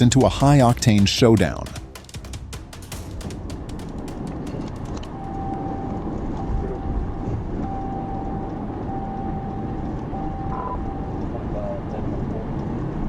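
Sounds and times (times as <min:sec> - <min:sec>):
steady high tone: 0:00.0 - 0:11.2.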